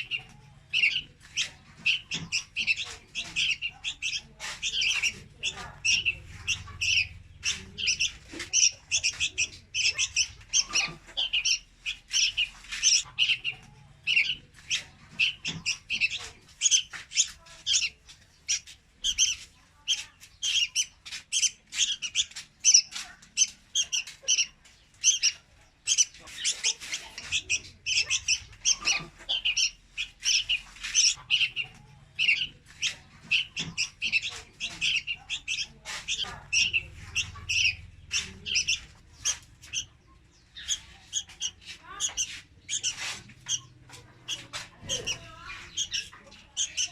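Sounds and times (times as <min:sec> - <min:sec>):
bird calling high chirps: 0:00.0 - 0:46.9.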